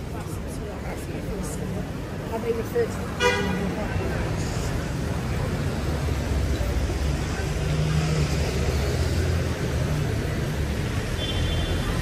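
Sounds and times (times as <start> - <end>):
tyre noise on road: 0.0 - 12.0
vehicle engines rumbling: 0.0 - 12.0.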